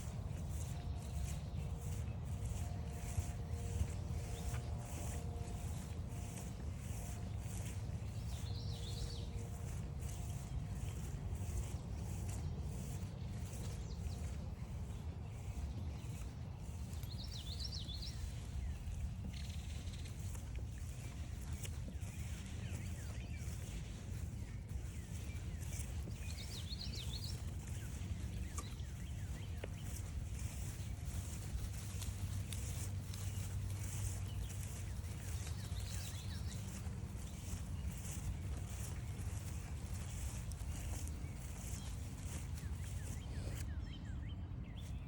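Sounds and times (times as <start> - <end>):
birds calling and singing: 0.0 - 45.0
footsteps crunching on trail: 0.0 - 45.0.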